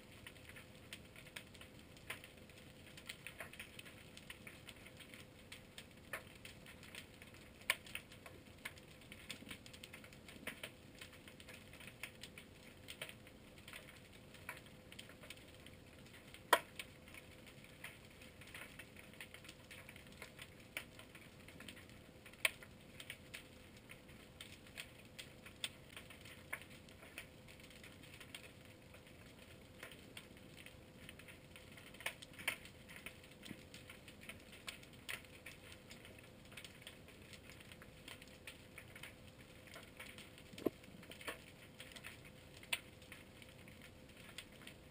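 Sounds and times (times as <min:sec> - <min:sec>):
faint steady hum: 0:00.0 - 0:44.9
underwater crackle of clicks: 0:00.1 - 0:44.9.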